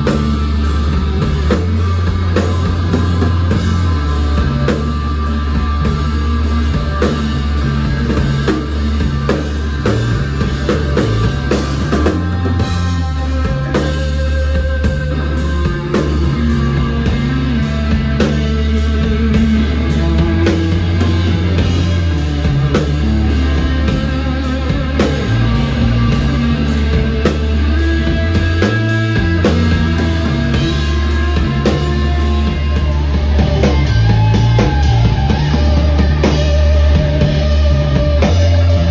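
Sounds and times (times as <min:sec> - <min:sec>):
drum kit with cymbals: 0:00.0 - 0:38.9
electric guitar: 0:00.0 - 0:38.9.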